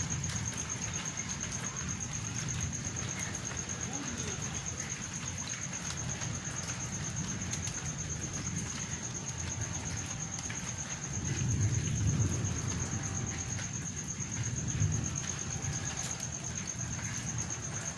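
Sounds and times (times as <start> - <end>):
low rumble of thunder: 0.0 - 17.9
rain falling steadily: 0.0 - 17.9.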